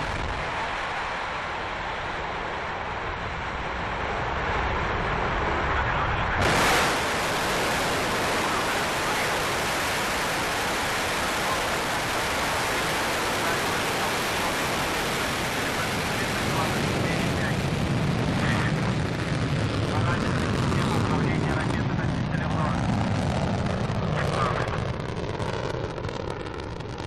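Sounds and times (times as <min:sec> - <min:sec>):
rocket engines roaring: 0:00.0 - 0:27.0.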